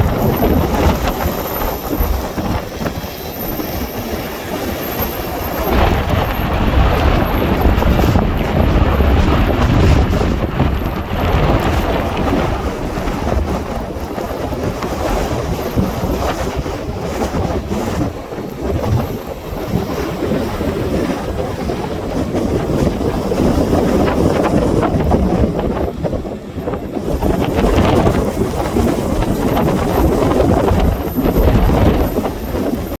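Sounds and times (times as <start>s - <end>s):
gusty wind buffeting microphone: 0.0s - 33.0s.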